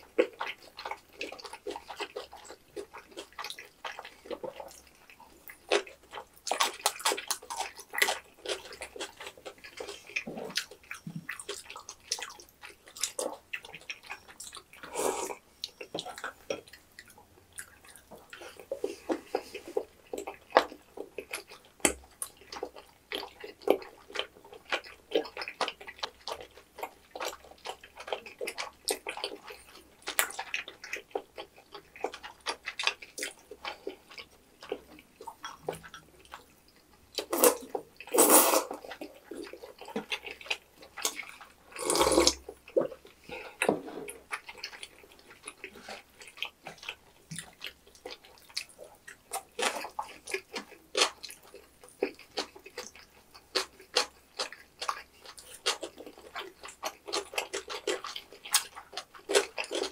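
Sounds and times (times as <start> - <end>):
people chewing food: 0.0 - 59.9.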